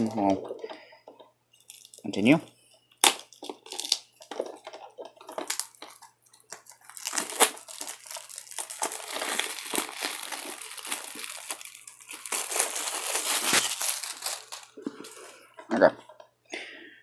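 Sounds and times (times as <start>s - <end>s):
cellophane crinkling: 0.0s - 15.9s.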